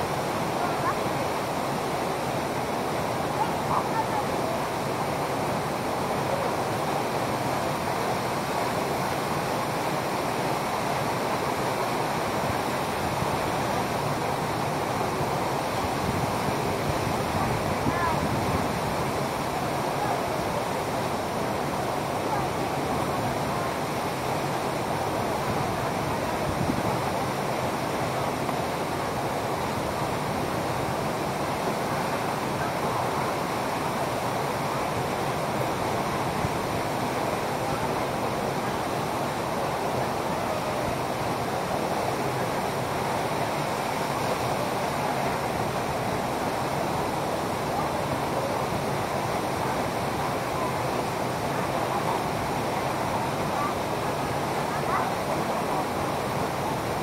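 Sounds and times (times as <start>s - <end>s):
waterfall rushing into pool: 0.0s - 57.0s.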